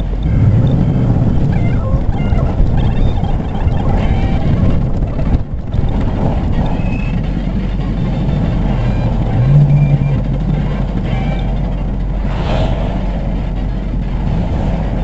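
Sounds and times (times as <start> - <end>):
engine and road rumble: 0.0 - 15.0
low hum: 0.0 - 15.0.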